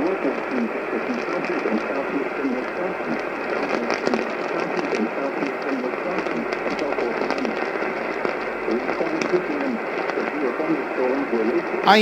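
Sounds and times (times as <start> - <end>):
faint broadcast voice: 0.0 - 12.0
radio static crackling: 0.0 - 12.0.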